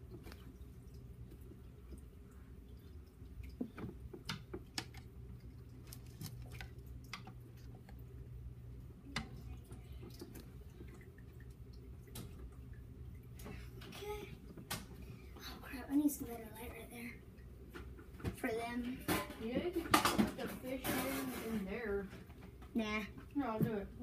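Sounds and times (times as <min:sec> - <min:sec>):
low steady hum: 0:00.0 - 0:24.0
water dripping: 0:00.0 - 0:24.0.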